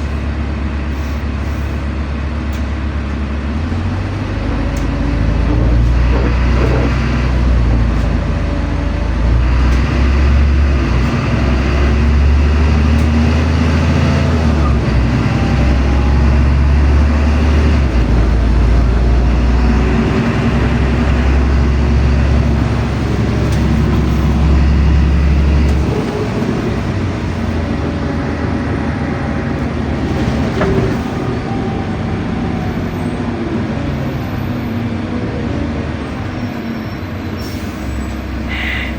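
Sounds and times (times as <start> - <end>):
bus engine drone: 0.0 - 38.9
road and rattle noise: 0.0 - 38.9.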